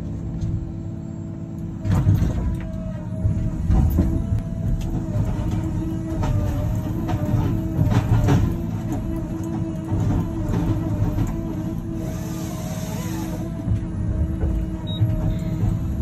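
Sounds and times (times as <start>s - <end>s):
diesel engine and hydraulics whine: 0.0s - 16.0s.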